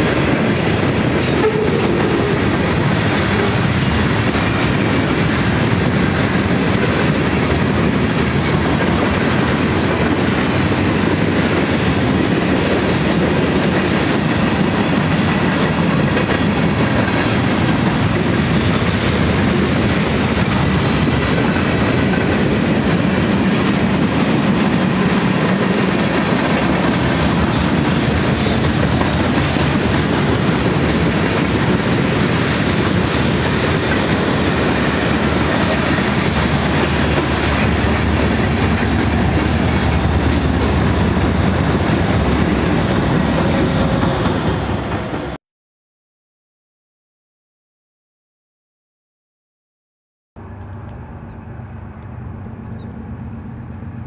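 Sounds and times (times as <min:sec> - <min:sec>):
train wheels rumbling on rails: 0:00.0 - 0:45.4.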